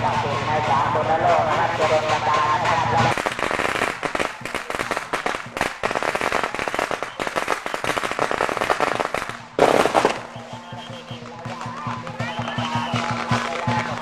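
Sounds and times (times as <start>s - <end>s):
firecrackers popping: 0.0s - 14.0s.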